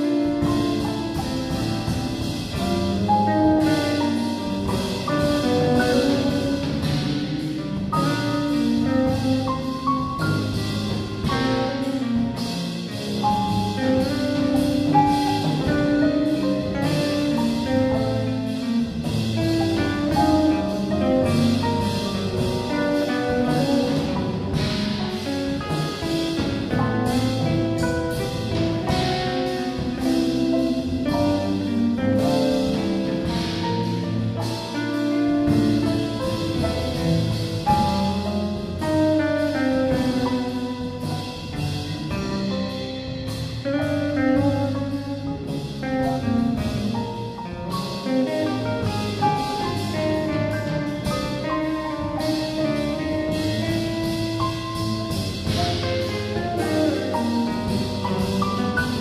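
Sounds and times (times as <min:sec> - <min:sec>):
drum kit: 0:00.0 - 0:59.0
electric bass: 0:00.0 - 0:59.0
electric guitar: 0:00.0 - 0:59.0
piano: 0:00.0 - 0:59.0.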